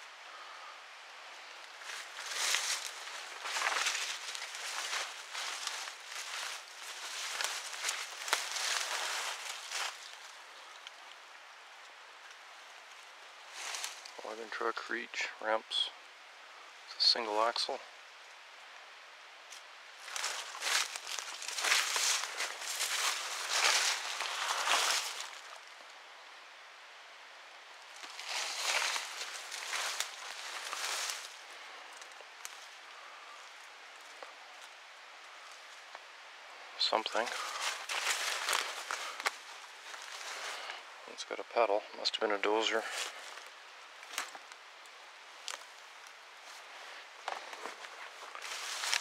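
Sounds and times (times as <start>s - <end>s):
leaves and brush rustling: 0.0s - 49.0s.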